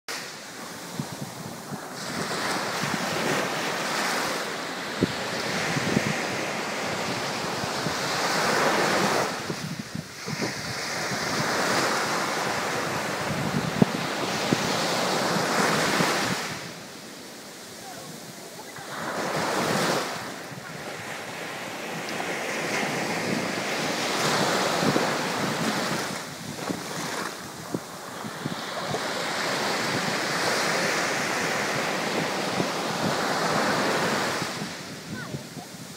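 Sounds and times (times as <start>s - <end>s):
small waves breaking on beach: 0.1s - 35.9s.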